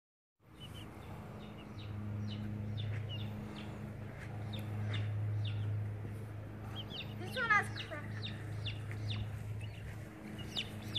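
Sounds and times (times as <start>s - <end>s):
low hum: 0.4s - 10.9s
chicks peeping: 0.5s - 10.9s.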